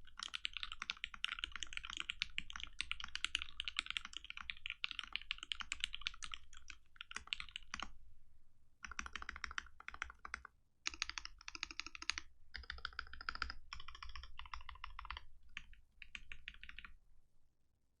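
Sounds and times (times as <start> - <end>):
mechanical keyboard typing: 0.1 - 7.9, 8.8 - 16.9.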